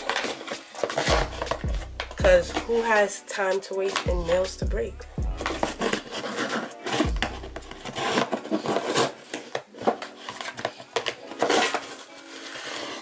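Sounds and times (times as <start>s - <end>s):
cardboard rustling and tearing: 0.0s - 2.9s, 5.4s - 13.0s.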